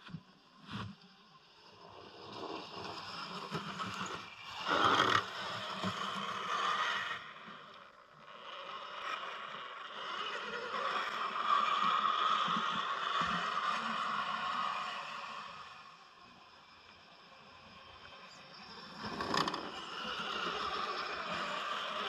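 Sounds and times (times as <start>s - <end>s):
rc truck motors whining: 0.9s - 22.0s.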